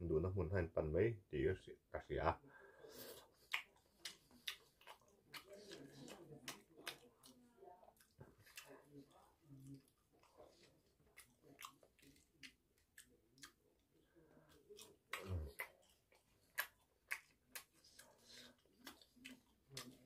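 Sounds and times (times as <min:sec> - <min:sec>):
person chewing crunchy food: 0:02.9 - 0:13.8, 0:14.5 - 0:20.0.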